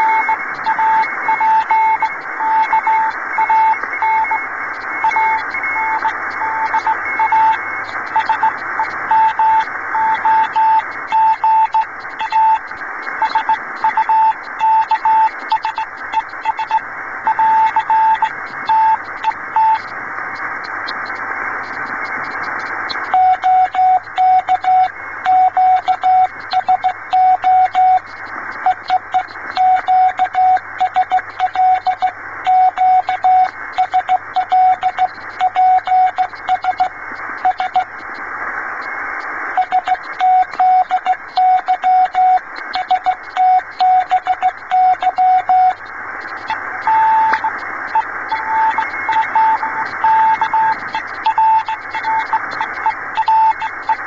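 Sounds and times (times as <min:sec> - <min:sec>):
morse code tone: 0:00.0 - 0:19.9, 0:23.1 - 0:37.9, 0:39.5 - 0:54.0
weaker higher-pitched morse signal: 0:00.0 - 0:19.9, 0:22.0 - 0:38.0, 0:38.8 - 0:54.0
radio band hiss: 0:00.0 - 0:54.0.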